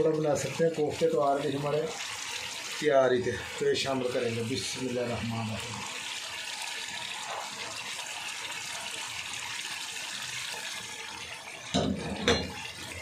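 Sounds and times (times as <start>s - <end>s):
gravy sizzling and bubbling: 0.0s - 13.0s.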